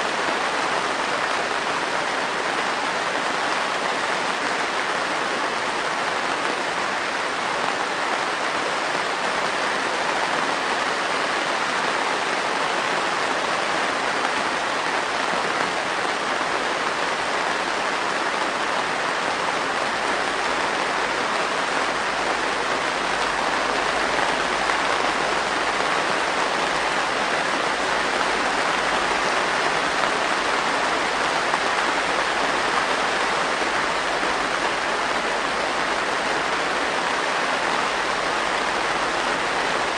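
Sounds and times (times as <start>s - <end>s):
heavy rain on glass roof: 0.0s - 39.9s.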